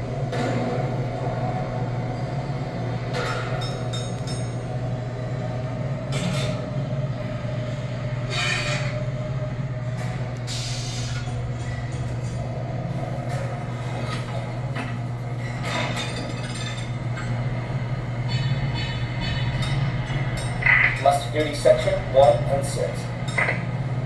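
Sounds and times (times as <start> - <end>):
ship machinery humming: 0.0 - 24.0.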